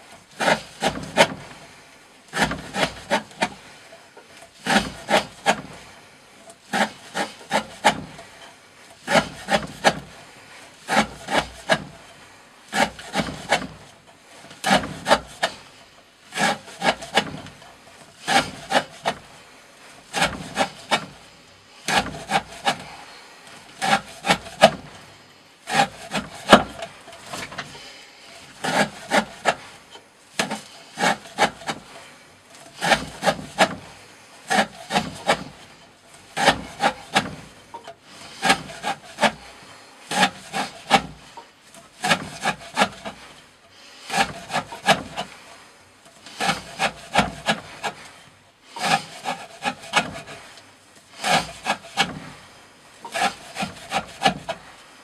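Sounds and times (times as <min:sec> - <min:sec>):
knife rasping through rope: 0:00.0 - 0:01.6, 0:02.3 - 0:03.8, 0:04.4 - 0:05.8, 0:06.6 - 0:10.2, 0:10.8 - 0:19.3, 0:20.1 - 0:25.1, 0:25.7 - 0:54.7.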